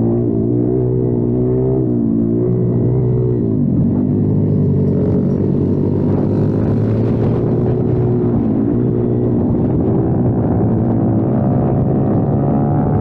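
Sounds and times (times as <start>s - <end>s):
pit bike engine running: 2.1s - 12.6s.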